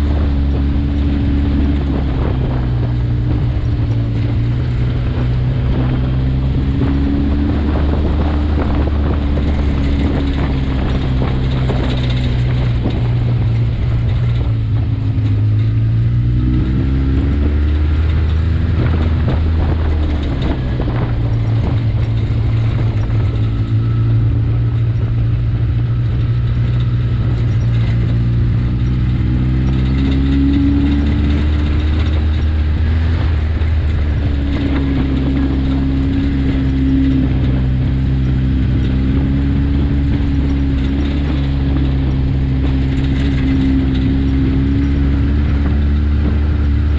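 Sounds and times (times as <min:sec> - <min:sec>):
utility vehicle engine droning: 0:00.0 - 0:46.9.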